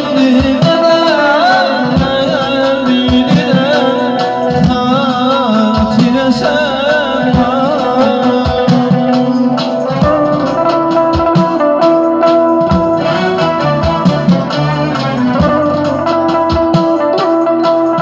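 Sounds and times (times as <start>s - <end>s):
man singing: 0.0s - 11.3s, 12.9s - 16.6s
electric guitar: 0.0s - 18.0s
steady drum beat: 0.0s - 18.0s.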